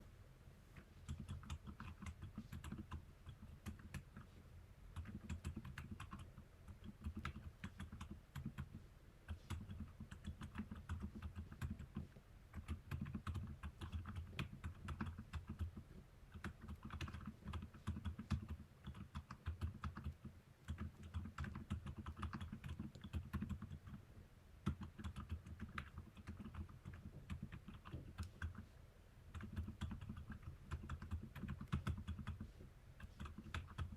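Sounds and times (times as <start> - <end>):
mechanical keyboard typing: 1.1 - 4.3, 4.9 - 24.0, 24.6 - 28.7, 29.3 - 33.9.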